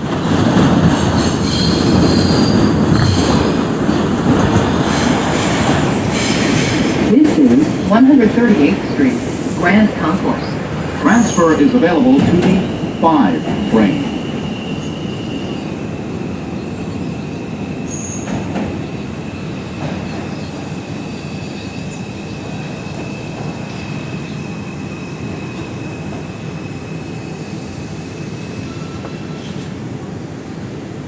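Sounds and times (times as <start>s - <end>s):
subway car rolling on rails: 0.0s - 31.0s.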